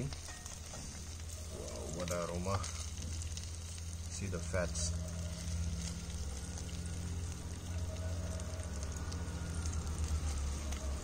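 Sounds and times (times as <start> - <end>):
steak sizzling in fat: 0.0 - 11.0
low hum: 0.1 - 11.0.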